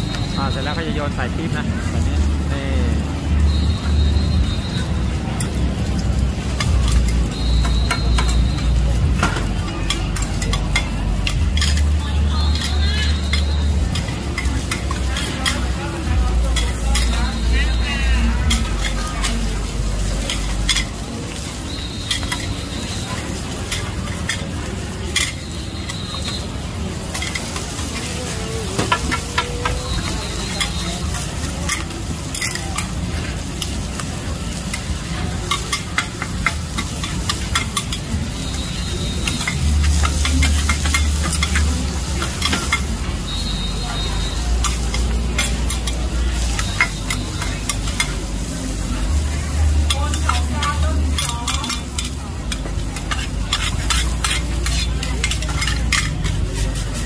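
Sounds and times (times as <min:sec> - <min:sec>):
omelettes sizzling in oil: 0:00.0 - 0:57.0
metal spatulas scraping a pan: 0:06.4 - 0:26.4, 0:27.1 - 0:57.0.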